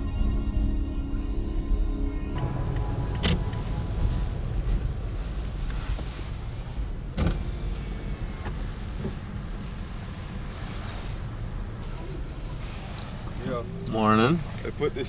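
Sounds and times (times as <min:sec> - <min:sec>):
engine and road rumble: 0:02.4 - 0:15.0.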